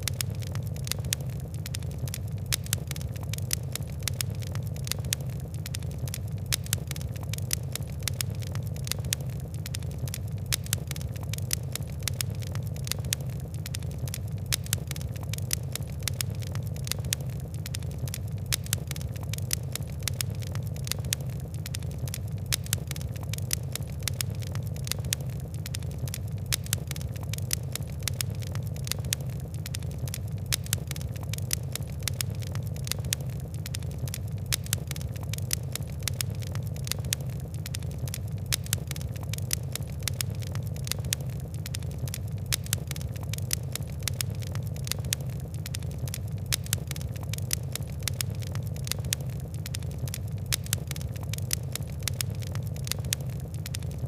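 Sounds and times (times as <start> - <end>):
fire crackling: 0.0 - 54.0
low rumble of flame: 0.0 - 54.0.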